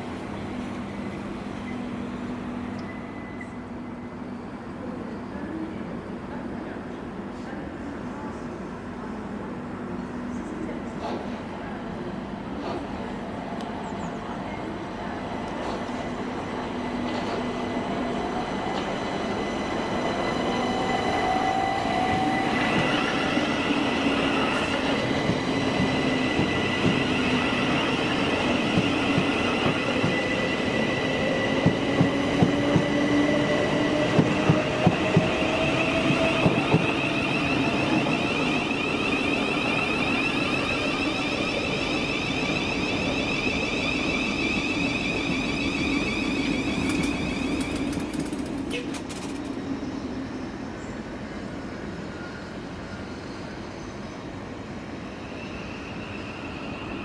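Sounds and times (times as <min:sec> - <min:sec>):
electric train whine: 0:00.0 - 0:06.1, 0:13.4 - 0:57.0.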